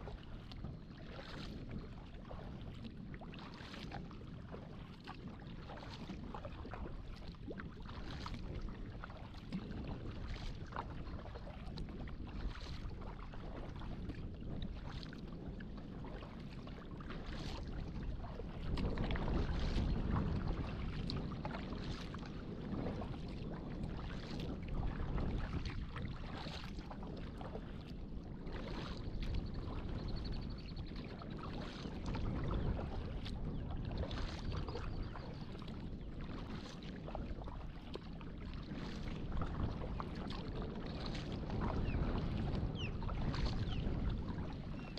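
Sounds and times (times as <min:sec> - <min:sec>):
paddle splashing water: 0:00.0 - 0:44.9.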